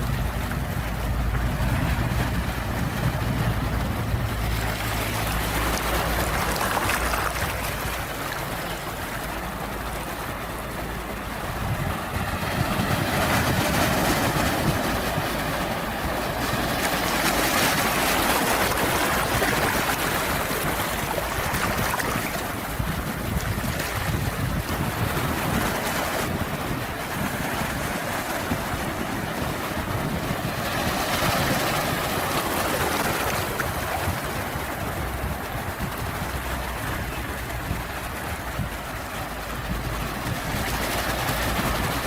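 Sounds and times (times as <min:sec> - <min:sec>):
ocean waves washing in: 0:00.0 - 0:42.0.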